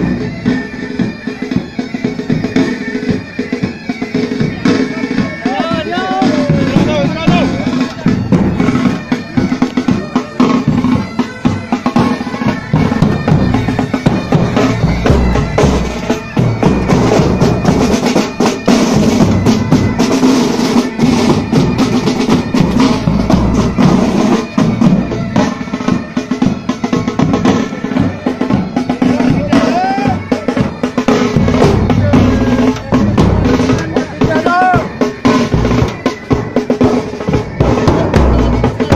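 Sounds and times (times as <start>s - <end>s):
bagpipe drone: 0.0s - 38.9s
snare and bass drums marching: 0.0s - 38.9s.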